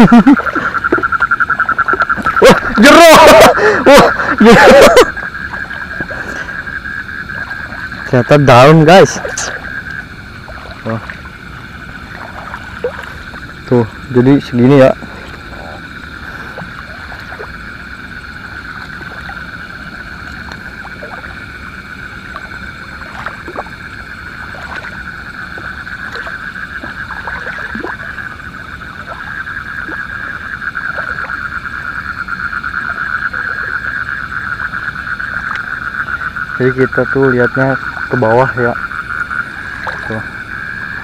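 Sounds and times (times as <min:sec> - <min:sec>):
frogs trilling: 0:00.0 - 0:41.0.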